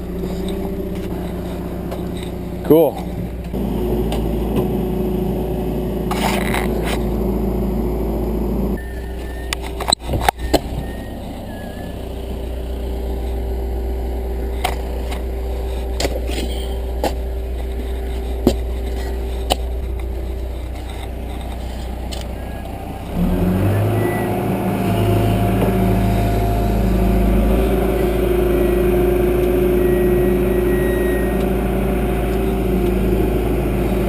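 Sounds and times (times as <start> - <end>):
backhoe engine running: 0.0 - 34.0.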